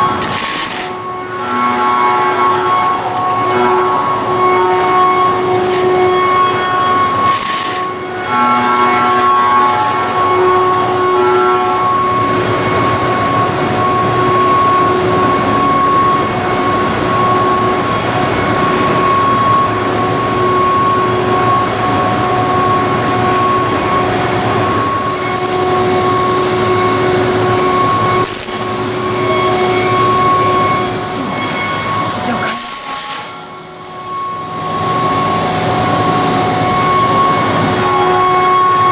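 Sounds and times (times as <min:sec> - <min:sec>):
milling machine cutting tones: 0:00.0 - 0:38.9.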